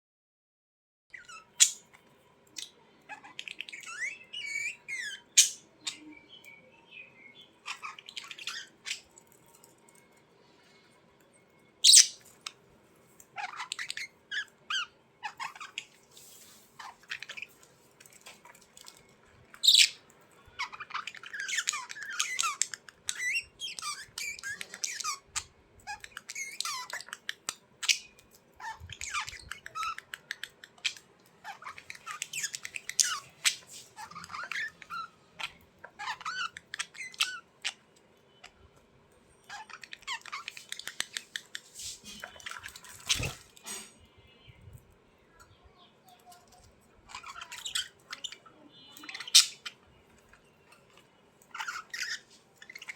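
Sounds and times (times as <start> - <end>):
birds twittering: 1.1 - 11.0, 11.7 - 12.7, 13.3 - 52.9
birds chirping and squawking: 1.1 - 52.9.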